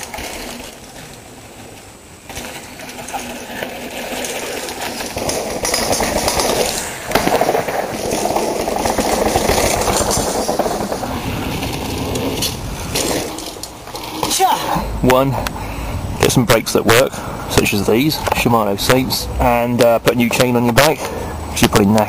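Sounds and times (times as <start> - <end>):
bike tyres crunching on dirt trail: 0.0 - 21.6.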